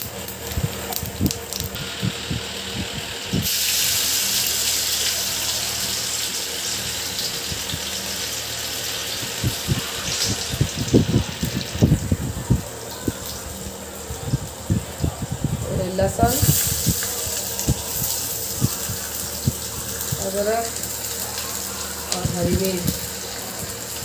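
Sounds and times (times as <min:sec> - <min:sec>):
hot oil sizzling: 0:00.0 - 0:24.0.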